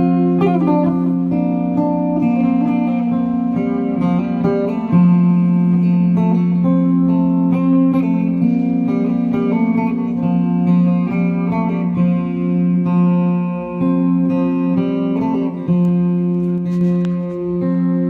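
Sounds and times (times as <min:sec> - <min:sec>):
plucked guitar music: 0:00.0 - 0:18.0.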